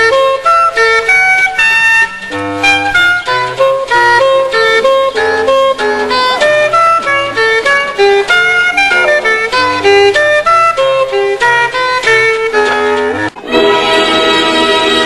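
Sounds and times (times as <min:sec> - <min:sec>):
quick instrumental melody: 0:00.0 - 0:15.0.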